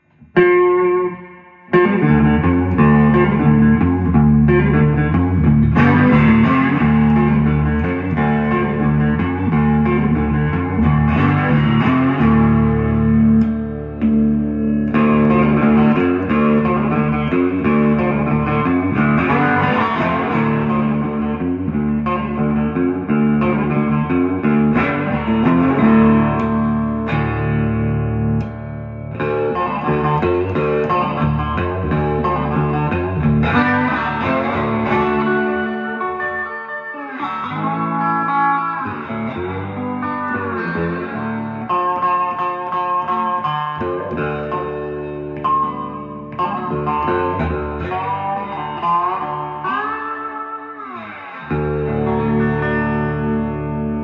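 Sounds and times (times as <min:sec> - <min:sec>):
electric guitar playing chords: 0:00.0 - 0:54.0.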